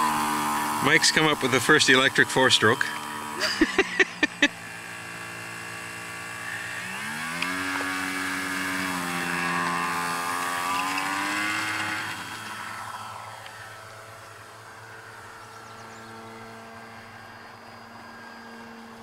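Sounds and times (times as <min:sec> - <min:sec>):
model aircraft electric motor: 0:00.0 - 0:19.0.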